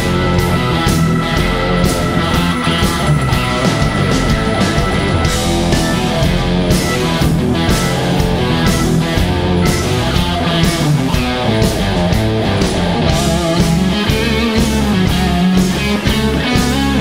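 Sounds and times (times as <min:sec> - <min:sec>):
electric guitar: 0:00.0 - 0:17.0
keyboards: 0:00.0 - 0:17.0
steady drum beat: 0:00.0 - 0:17.0.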